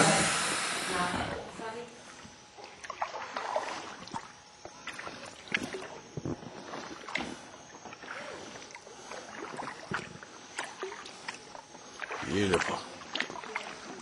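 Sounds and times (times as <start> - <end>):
water splashing around canoe: 2.6 - 14.0.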